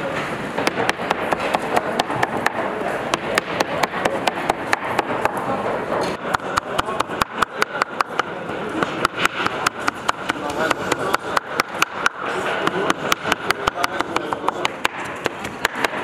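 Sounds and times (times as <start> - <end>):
murmur of voices: 0.0 - 16.0.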